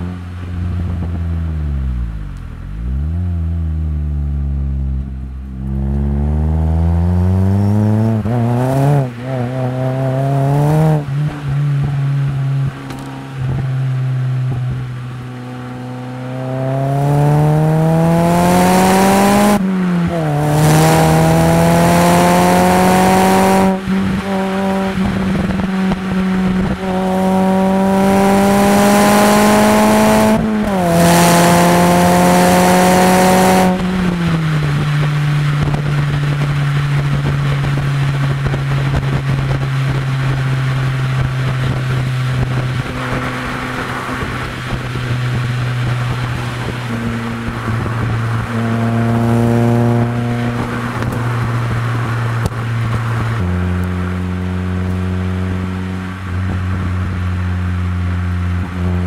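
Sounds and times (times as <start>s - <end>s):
car exhaust accelerating: 0.0s - 59.0s.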